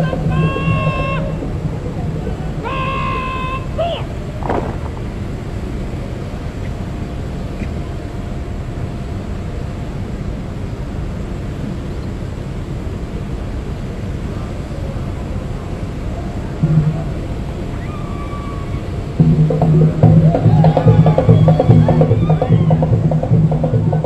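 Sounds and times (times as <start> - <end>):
jet engine rumble and whine: 0.0 - 24.0.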